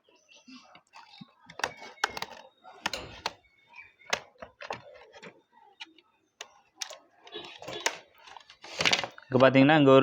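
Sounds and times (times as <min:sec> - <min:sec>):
plastic parts clicking and tapping: 0:00.7 - 0:09.6.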